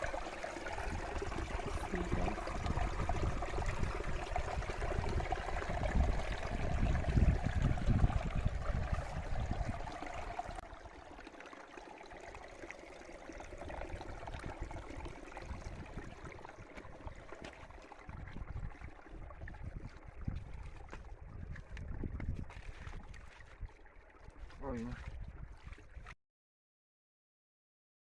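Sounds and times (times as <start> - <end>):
water rushing in a stream: 0.0 - 26.2.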